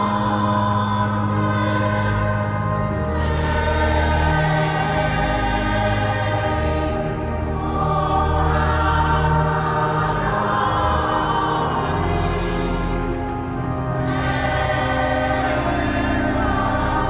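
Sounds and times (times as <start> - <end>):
choir singing sustained chords: 0.0 - 17.0.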